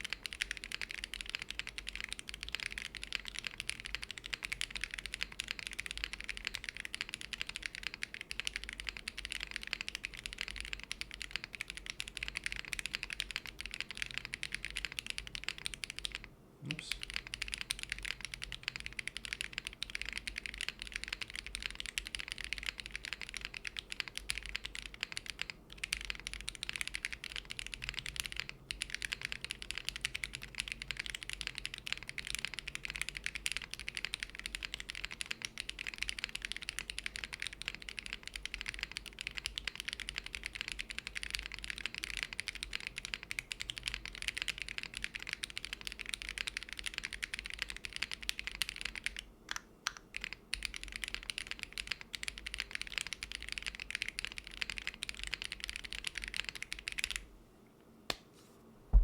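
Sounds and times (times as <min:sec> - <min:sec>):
mechanical keyboard typing: 0:00.0 - 0:16.3, 0:16.9 - 0:57.2.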